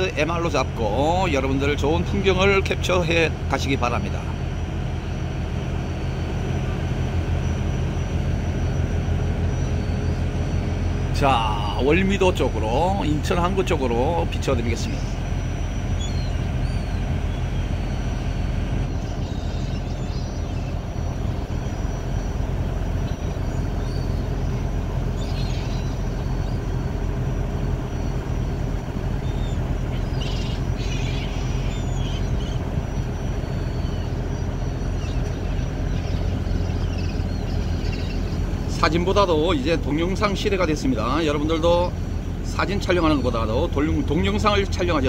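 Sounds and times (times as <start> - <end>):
ferry engine drone: 0.0 - 45.0
gulls calling: 0.0 - 45.0.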